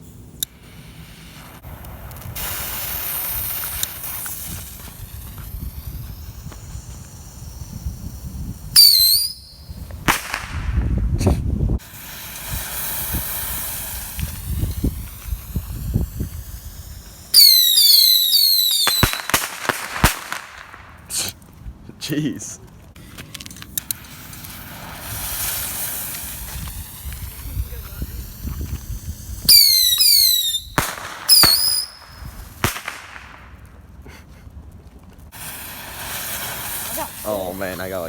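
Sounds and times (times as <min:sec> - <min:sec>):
bottle rockets hissing: 0:00.0 - 0:21.4, 0:23.0 - 0:33.6, 0:35.3 - 0:38.0
rockets bursting with cracks: 0:00.0 - 0:21.6, 0:22.6 - 0:38.0
falling rocket whistles: 0:00.3 - 0:21.3, 0:24.0 - 0:33.5, 0:35.3 - 0:38.0.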